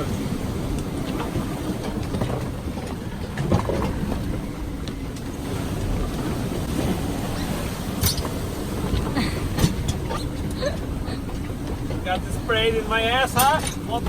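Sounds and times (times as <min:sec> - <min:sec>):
rushing water: 0:00.0 - 0:14.0
strong wind: 0:00.0 - 0:14.0.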